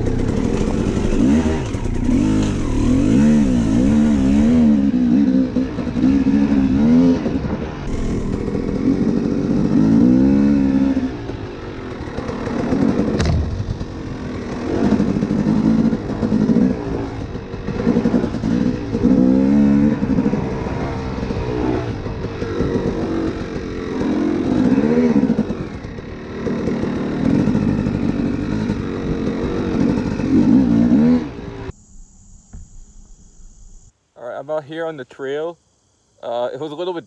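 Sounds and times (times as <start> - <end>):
two-stroke dirt bike engine: 0.0 - 31.7.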